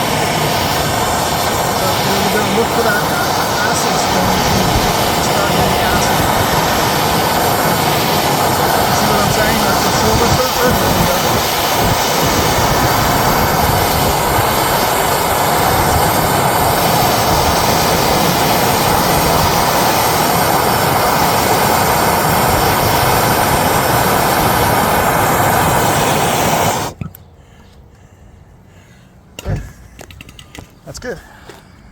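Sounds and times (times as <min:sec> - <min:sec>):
torch flame rushing: 0:00.0 - 0:27.1.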